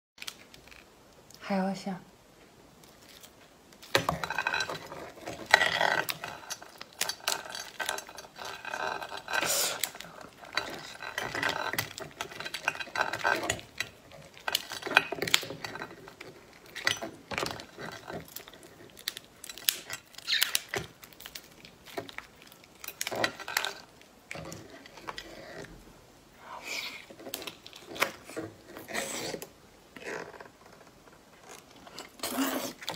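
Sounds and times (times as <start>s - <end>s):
prawn shell cracking and peeling: 0.2s - 1.4s, 2.8s - 25.7s, 26.8s - 32.9s.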